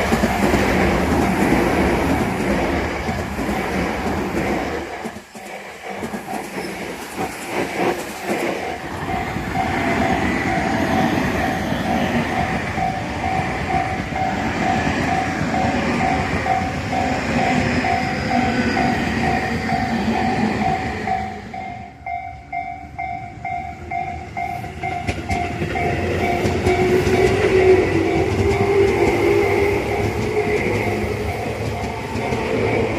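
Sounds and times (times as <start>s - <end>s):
clickety-clack over rail joints: 0.0s - 21.1s, 24.4s - 32.9s
train wheels rumbling: 0.0s - 32.9s.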